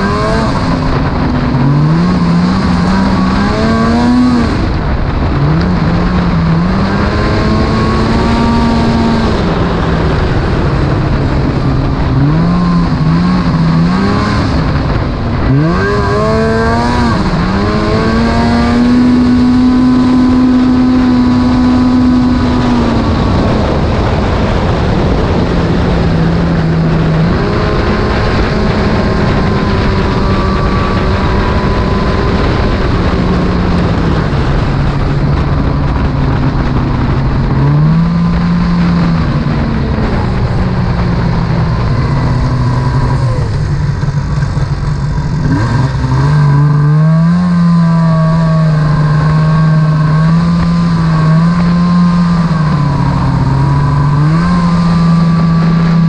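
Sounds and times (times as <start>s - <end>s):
snowmobile engine running: 0.0s - 56.0s
wind and track noise: 0.0s - 56.0s.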